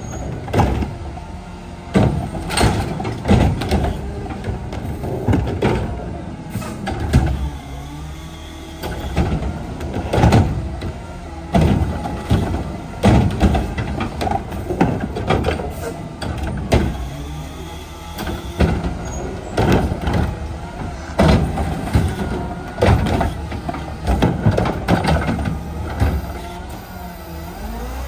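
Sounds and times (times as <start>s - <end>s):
trash cart banging: 0.0s - 1.1s, 1.9s - 7.5s, 8.8s - 26.9s.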